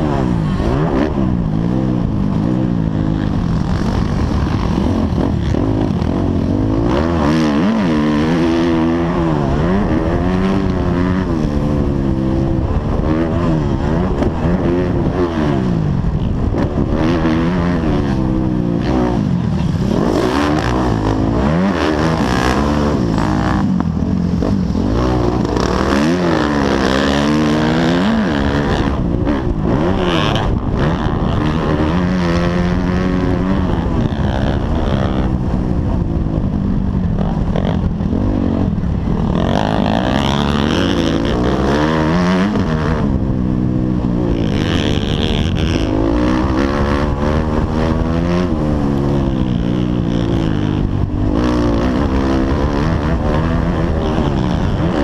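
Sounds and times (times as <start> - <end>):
dirt bike engine revving: 0.0 - 55.0
low rumble: 0.0 - 55.0.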